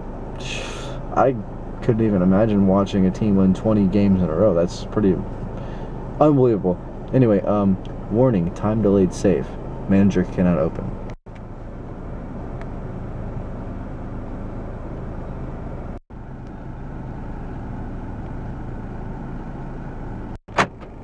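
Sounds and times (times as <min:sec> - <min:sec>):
car engine drone inside cabin: 0:00.0 - 0:21.0.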